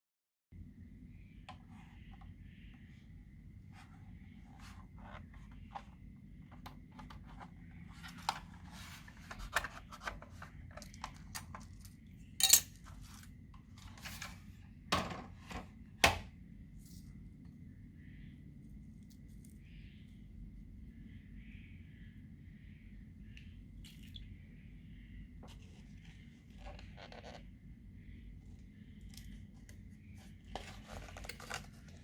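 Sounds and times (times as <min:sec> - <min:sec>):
steady low hum: 0:00.6 - 0:32.0.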